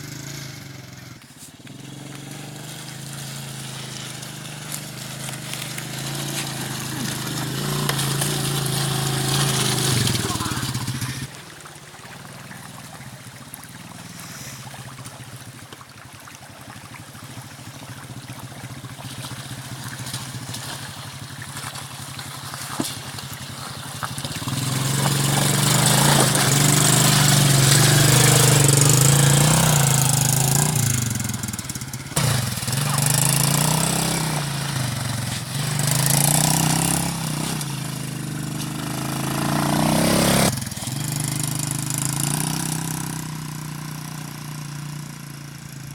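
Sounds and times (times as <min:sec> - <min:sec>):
atv engine idling and revving: 0:00.0 - 0:11.6, 0:12.2 - 0:15.7, 0:17.0 - 0:45.9.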